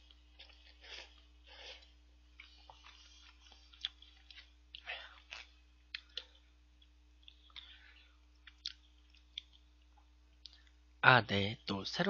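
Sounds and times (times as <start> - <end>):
person chewing with mouth clicks: 0.0 - 10.7
electrical hum: 0.0 - 12.0.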